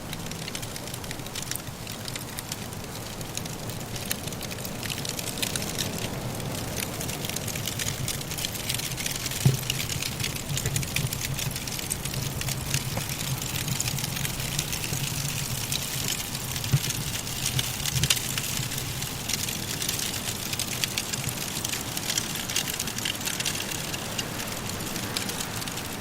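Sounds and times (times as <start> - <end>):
firewood crackling: 0.0 - 26.0
soft wind rumble: 0.0 - 26.0.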